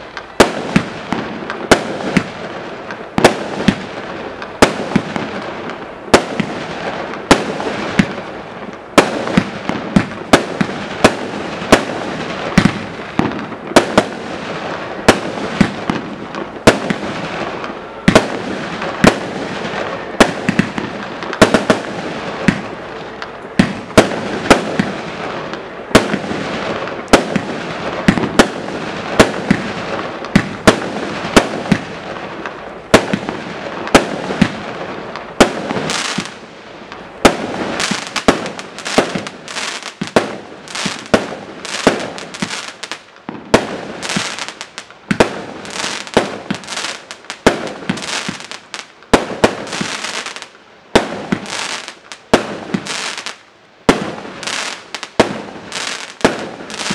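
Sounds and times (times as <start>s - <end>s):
steady firework hiss: 0.0s - 56.9s.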